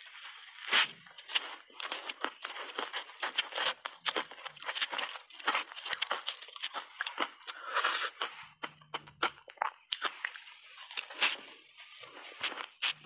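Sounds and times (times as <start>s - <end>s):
ice crunching between teeth: 0.0s - 13.0s.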